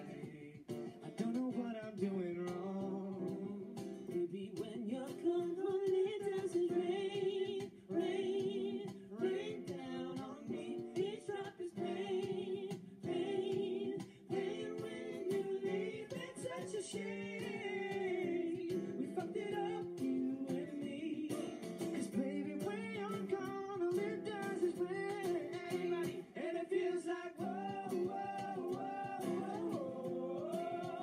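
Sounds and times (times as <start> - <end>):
people singing together: 0.0 - 0.6, 4.7 - 31.0
acoustic guitars strumming: 0.0 - 31.0.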